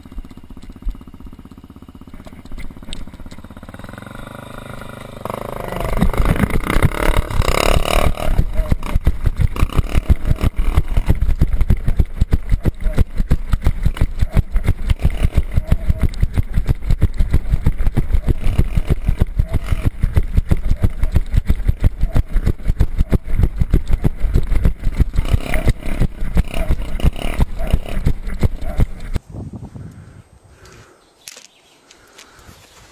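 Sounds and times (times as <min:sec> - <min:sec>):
motorcycle engine rumbling: 0:00.0 - 0:32.9.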